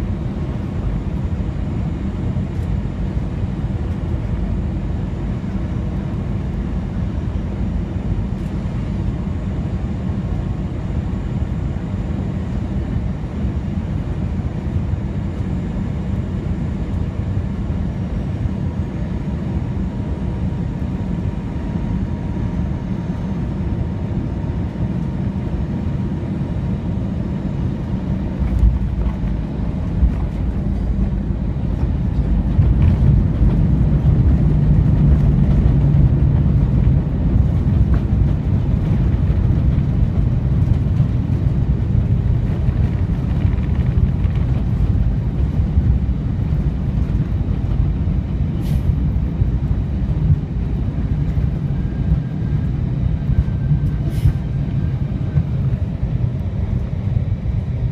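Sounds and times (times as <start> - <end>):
jet engines rumbling: 0.0 - 57.9.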